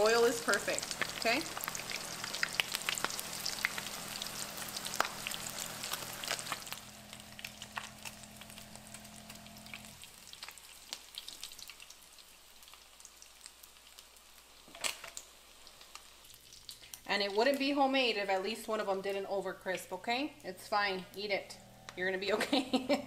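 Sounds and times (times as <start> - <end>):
food deep-frying in hot oil: 0.0 - 20.6
crackles and pops of frying: 0.0 - 23.0.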